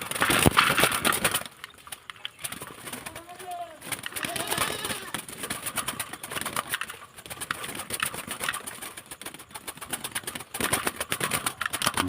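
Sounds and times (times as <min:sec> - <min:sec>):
quick clicks and flutters: 0:00.0 - 0:12.0.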